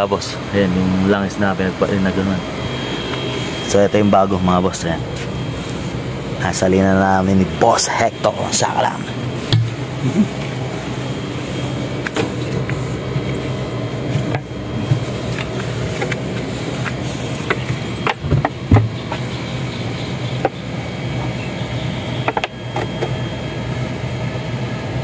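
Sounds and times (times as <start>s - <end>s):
diesel generator running: 0.0s - 25.0s.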